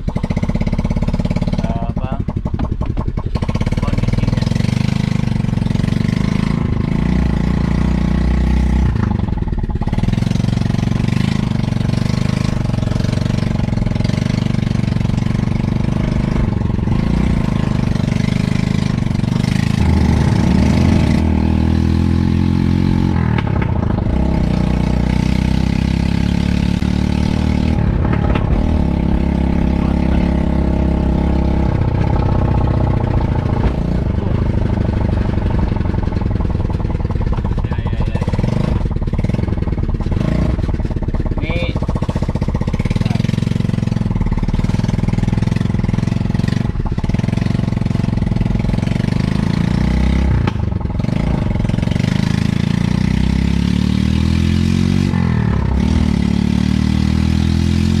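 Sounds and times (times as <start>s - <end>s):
loud small engine revving: 0.0s - 2.0s, 3.3s - 58.0s.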